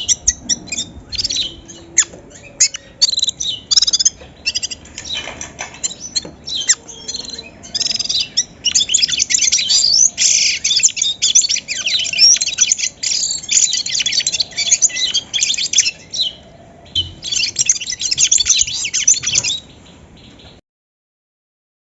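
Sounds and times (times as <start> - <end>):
birds chirping and singing: 0.0 - 20.6.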